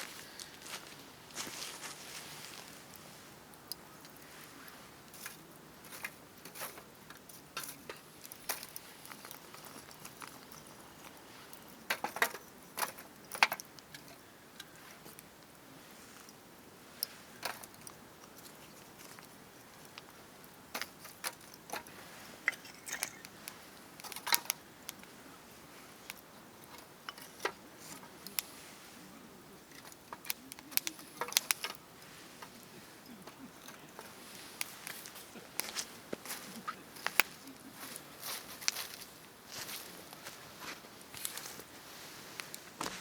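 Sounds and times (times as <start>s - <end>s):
campfire crackling and popping: 0.0s - 43.0s
faint steady hiss: 0.0s - 43.0s.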